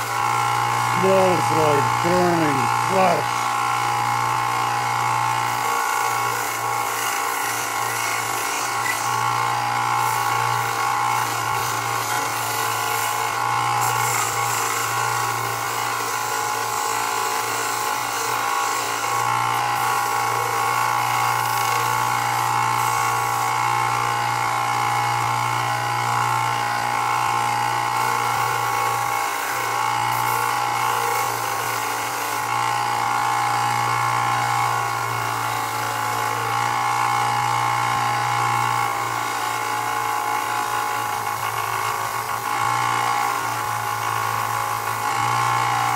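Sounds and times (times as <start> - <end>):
belt sander grinding leather: 0.0 - 45.9.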